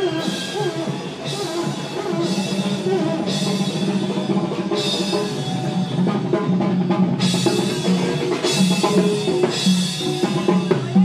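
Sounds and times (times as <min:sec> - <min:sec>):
drum kit beat: 0:00.0 - 0:11.0.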